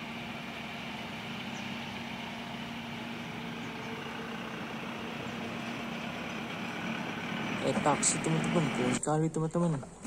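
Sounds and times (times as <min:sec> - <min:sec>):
car engine driving slowly past: 0:00.0 - 0:09.1.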